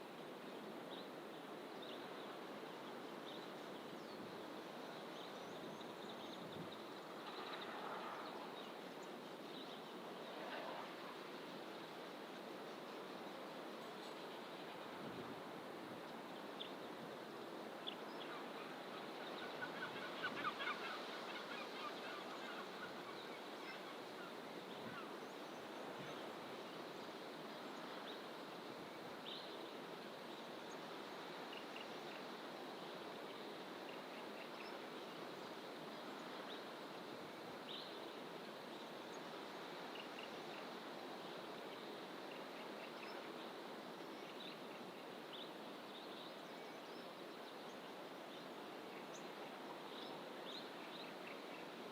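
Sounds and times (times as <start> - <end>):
distant ocean surf hiss: 0.0 - 51.9.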